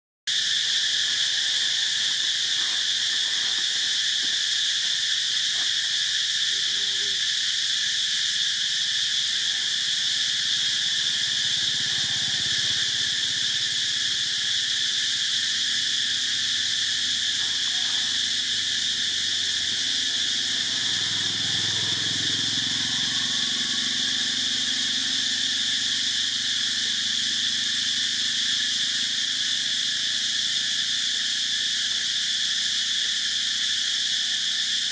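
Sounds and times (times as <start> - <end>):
insect chorus: 0.3 - 34.9.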